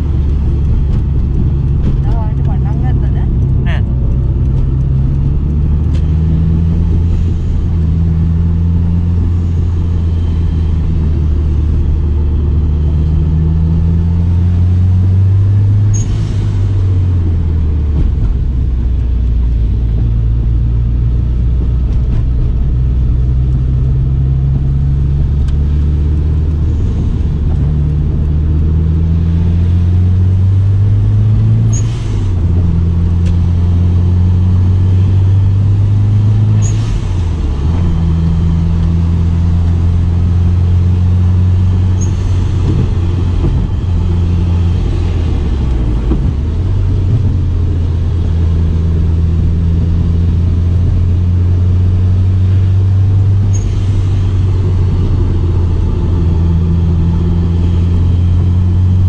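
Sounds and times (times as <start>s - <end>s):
car engine pulling under load: 0.0s - 59.0s.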